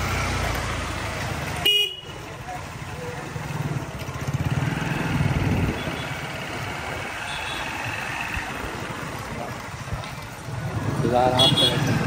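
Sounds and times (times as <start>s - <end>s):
low traffic hum: 0.0s - 12.0s
motorcycle engine running: 0.0s - 12.0s.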